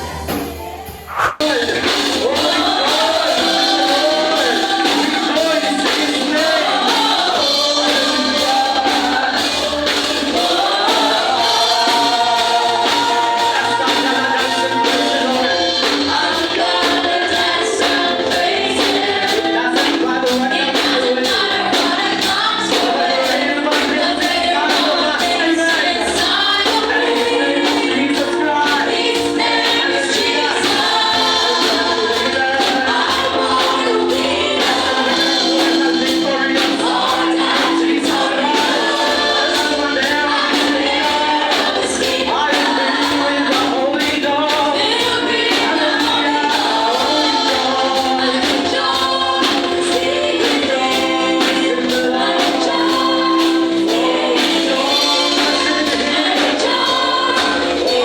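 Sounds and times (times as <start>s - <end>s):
band playing: 0.0s - 58.0s
group singing gospel song: 0.0s - 58.0s
tambourine beat: 1.4s - 58.0s.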